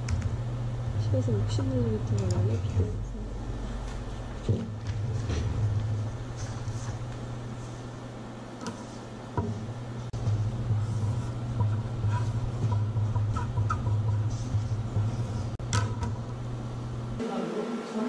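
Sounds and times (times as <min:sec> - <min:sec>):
low room rumble: 0:00.0 - 0:18.0.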